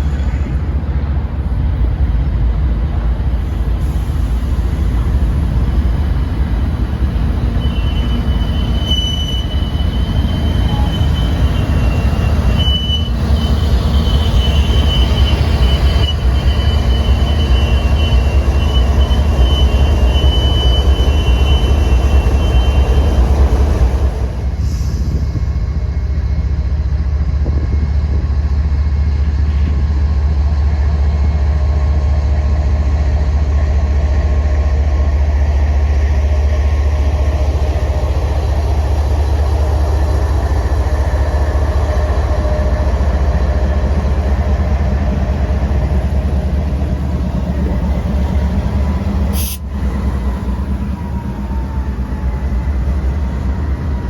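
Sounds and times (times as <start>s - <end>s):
train wheel squeal: 0.0s - 0.8s, 7.2s - 28.5s, 30.7s - 54.0s
train rumbling past: 0.0s - 54.0s.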